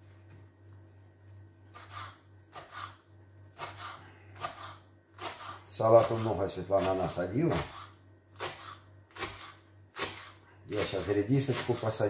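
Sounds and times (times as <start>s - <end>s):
knife cutting lettuce on board: 1.7s - 12.0s.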